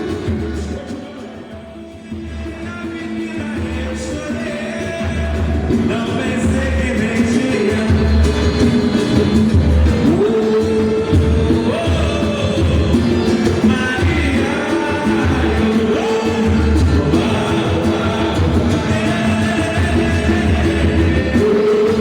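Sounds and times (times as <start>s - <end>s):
percussion: 0.0s - 22.0s
person singing: 0.0s - 22.0s.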